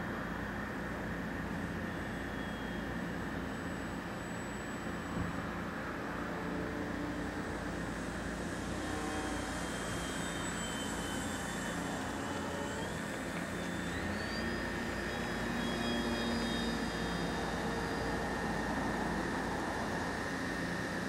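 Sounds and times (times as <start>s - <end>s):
model plane motor whining: 1.3s - 21.0s.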